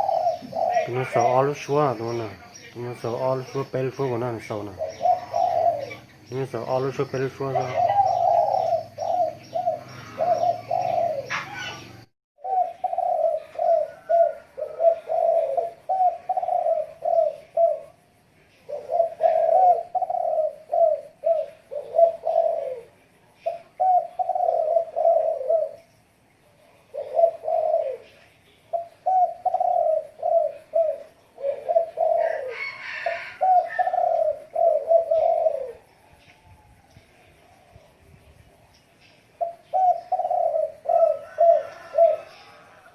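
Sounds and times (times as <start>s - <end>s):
dove cooing: 0.0s - 25.9s, 26.6s - 37.9s, 39.3s - 42.9s
small birds chirping: 0.0s - 42.9s.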